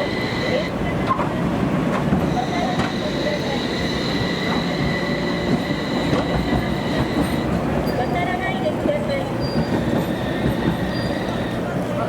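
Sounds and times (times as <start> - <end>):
tram wheels squealing: 0.0 - 1.4, 2.0 - 12.0
tram rumbling along street track: 0.0 - 12.0.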